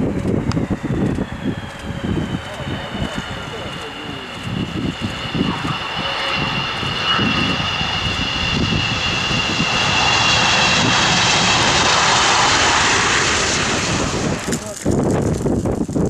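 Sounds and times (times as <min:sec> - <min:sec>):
jet engines roaring past: 0:00.0 - 0:16.0.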